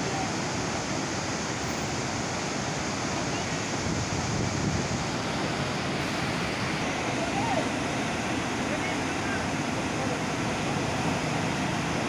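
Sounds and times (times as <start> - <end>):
rushing falling water: 0.0 - 12.0.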